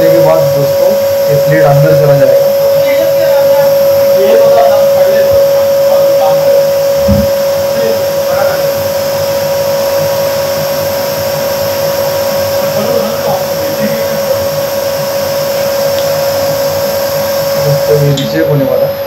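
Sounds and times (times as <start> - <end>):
constant hum tone: 0.0 - 19.0
machine whirring: 0.0 - 19.0.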